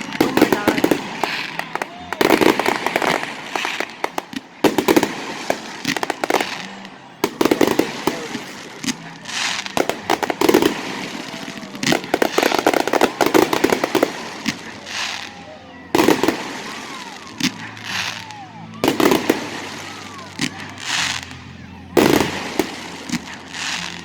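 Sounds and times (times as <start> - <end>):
fireworks exploding and crackling: 0.0 - 24.0.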